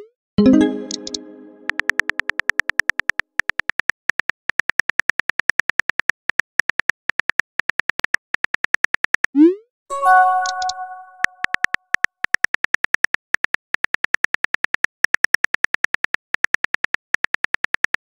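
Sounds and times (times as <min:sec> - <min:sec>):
synthetic keyboard clicks: 0:00.4 - 0:18.0.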